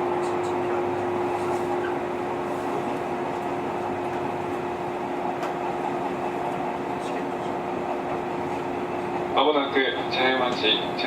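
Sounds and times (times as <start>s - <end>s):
steady train hum: 0.0s - 11.0s
train wheel and rail noise: 0.0s - 11.0s.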